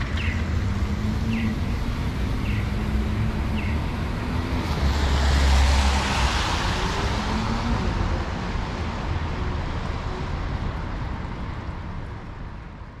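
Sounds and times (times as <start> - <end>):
traffic on wet street: 0.0 - 13.0.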